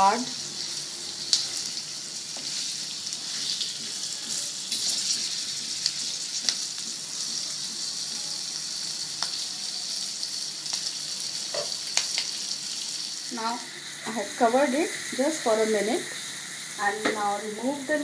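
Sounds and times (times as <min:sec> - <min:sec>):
chillies sizzling in oil: 0:00.0 - 0:18.0.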